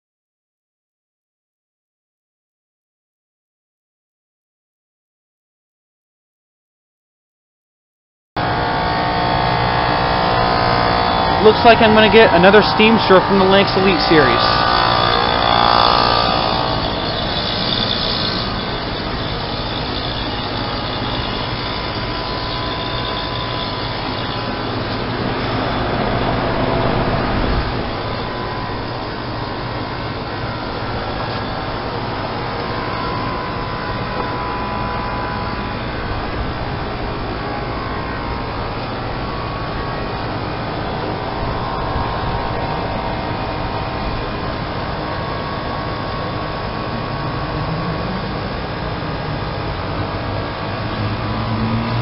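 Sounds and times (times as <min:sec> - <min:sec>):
heat pump humming: 0:08.4 - 0:52.0.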